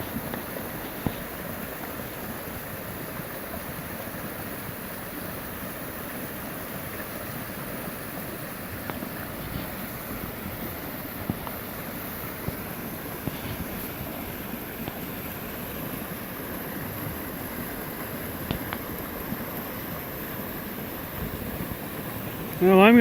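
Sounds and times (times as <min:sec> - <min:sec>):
flood water rushing: 0:00.0 - 0:23.0.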